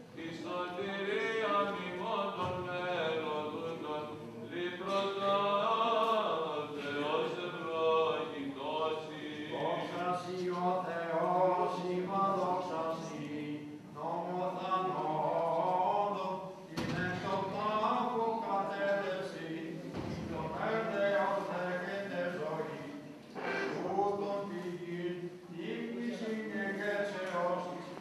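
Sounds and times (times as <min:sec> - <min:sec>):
man chanting: 0:00.1 - 0:28.0.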